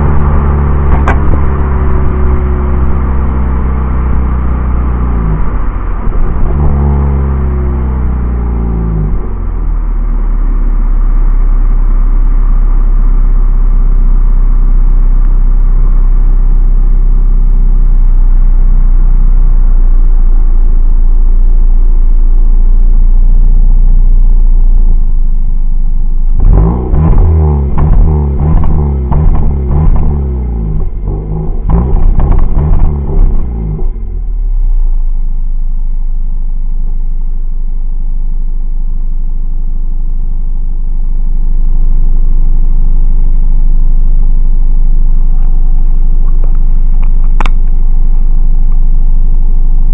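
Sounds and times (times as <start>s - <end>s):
car engine revving: 0.0s - 38.0s, 40.6s - 49.9s.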